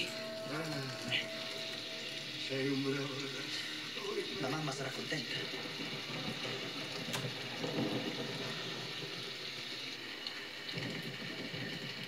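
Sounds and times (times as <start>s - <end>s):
rain pattering on windows: 0.0s - 12.0s.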